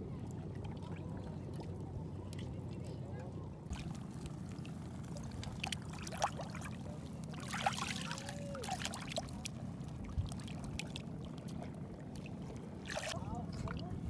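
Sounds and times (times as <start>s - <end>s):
water splashing and trickling: 0.1s - 14.0s.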